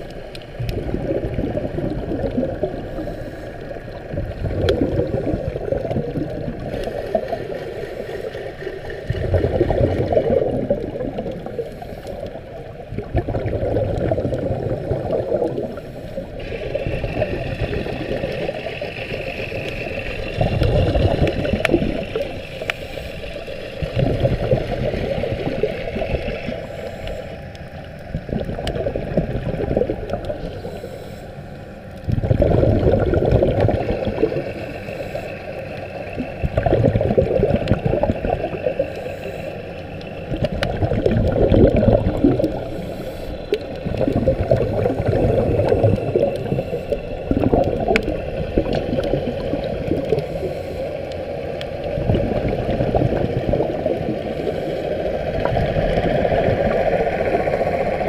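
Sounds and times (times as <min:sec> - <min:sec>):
muffled underwater water rushing: 0:00.0 - 0:58.0.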